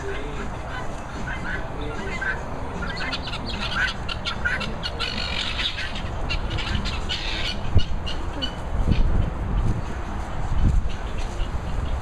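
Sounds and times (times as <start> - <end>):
birds squawking and chirping: 0.0 - 12.0.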